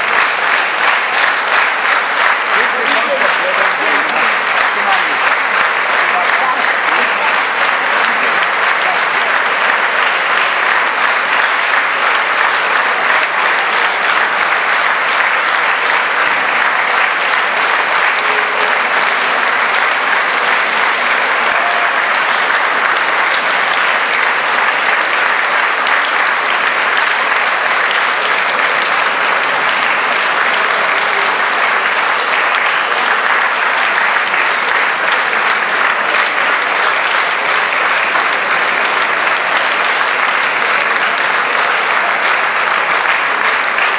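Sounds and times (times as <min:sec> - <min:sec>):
large audience applauding: 0:00.0 - 0:43.9.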